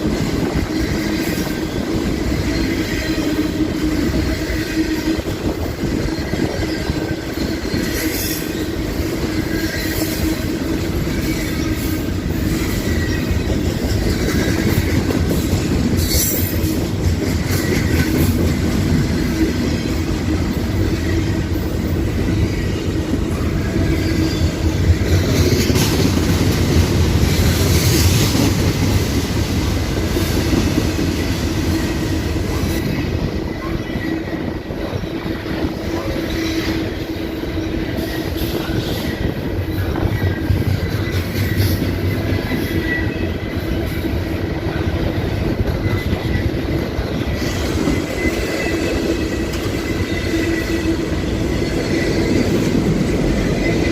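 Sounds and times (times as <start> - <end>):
train wheels clattering: 0.0 - 33.6, 34.3 - 53.9
train wheels squealing: 0.0 - 53.9.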